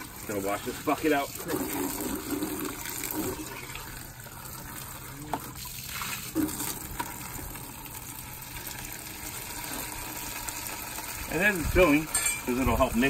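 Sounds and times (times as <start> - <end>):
water pouring into plastic bucket: 0.0 - 12.9.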